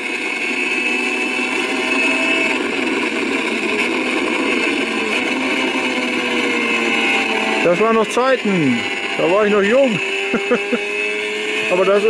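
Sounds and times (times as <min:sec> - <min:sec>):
racing motorcycle engine through small speakers: 0:00.0 - 0:12.0.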